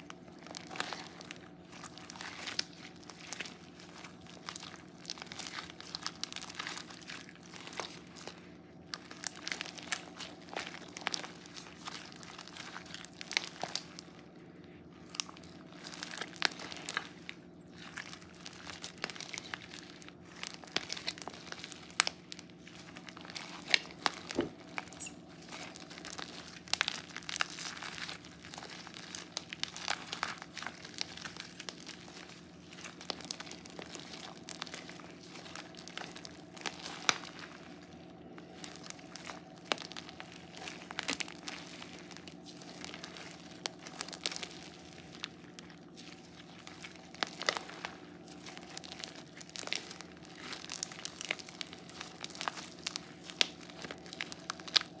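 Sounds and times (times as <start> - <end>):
crunchy slime crackling: 0.0 - 55.0.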